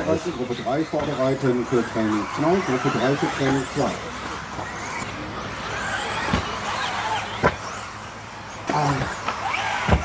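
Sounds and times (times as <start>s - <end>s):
rc car motors whining: 0.0s - 10.0s.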